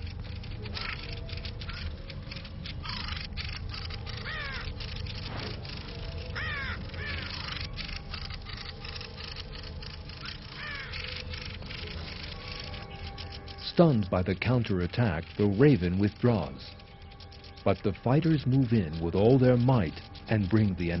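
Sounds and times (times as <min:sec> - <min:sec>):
rapid dry clicking chatter: 0:00.0 - 0:21.0
raven harsh calls: 0:00.0 - 0:21.0.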